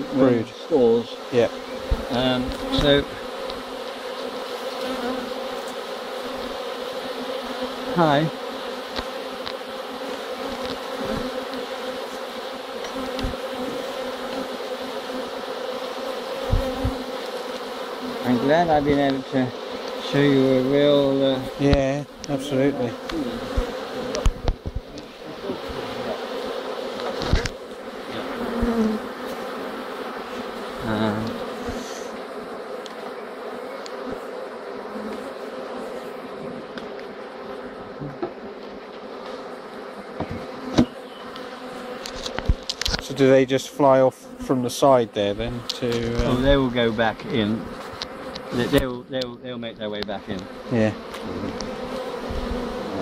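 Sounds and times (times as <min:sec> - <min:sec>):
bees buzzing: 0:00.0 - 0:53.0.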